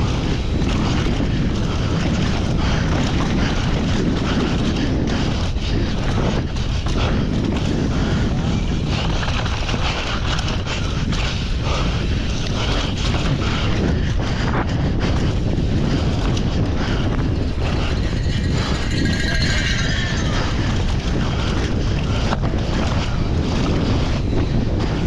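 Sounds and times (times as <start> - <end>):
bike knocking and rattling: 0.0 - 25.0
wind buffeting microphone: 0.0 - 25.0.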